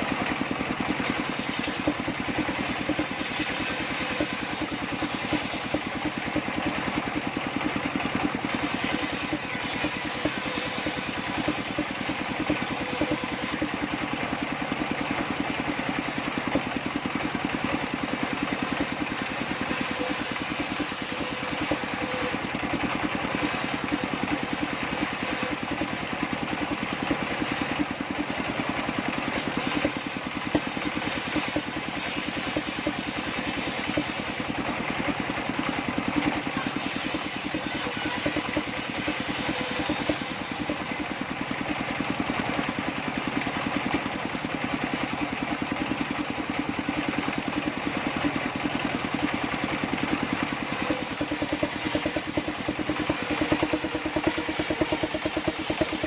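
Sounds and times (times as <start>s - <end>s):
engine running with pulsing beat: 0.0s - 56.0s.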